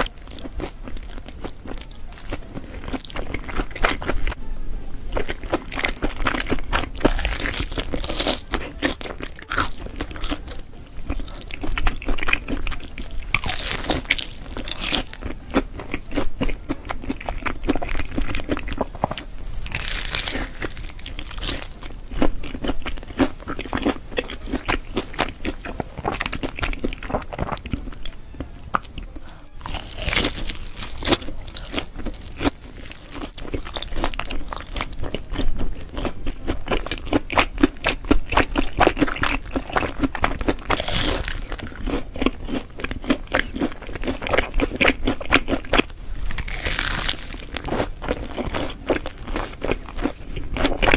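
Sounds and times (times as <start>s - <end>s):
crunchy chewing: 0.0s - 50.9s.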